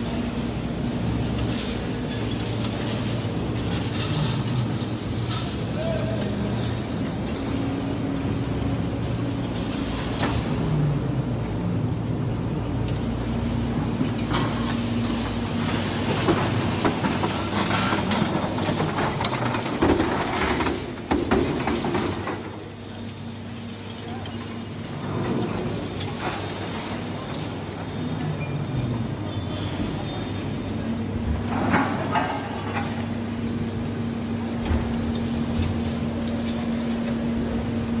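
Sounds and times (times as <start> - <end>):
heavy machinery humming: 0.0 - 38.0.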